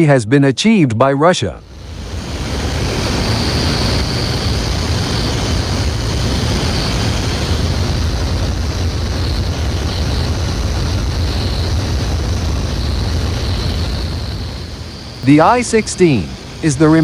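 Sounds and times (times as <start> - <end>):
radial aircraft engine droning: 1.6 - 17.0.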